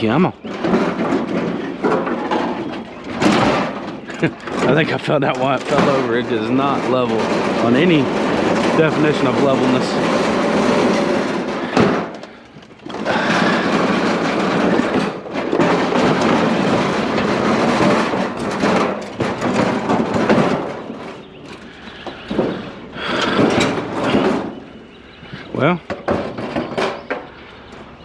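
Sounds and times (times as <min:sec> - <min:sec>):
metal grill rattling and scraping: 0:00.0 - 0:28.0.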